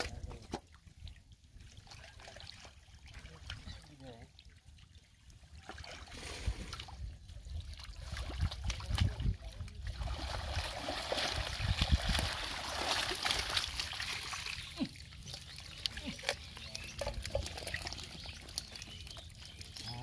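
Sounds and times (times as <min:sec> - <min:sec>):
muddy water splashing: 0:00.0 - 0:20.0.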